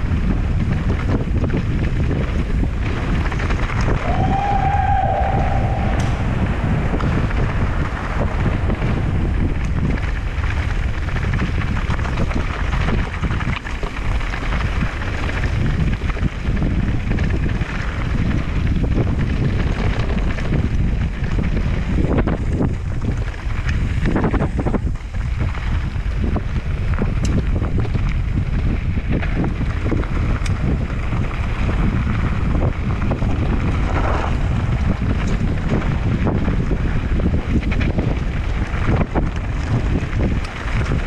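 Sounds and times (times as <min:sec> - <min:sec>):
bike rattling over stones: 0:00.0 - 0:04.6, 0:05.5 - 0:41.0
wind buffeting microphone: 0:00.0 - 0:41.0.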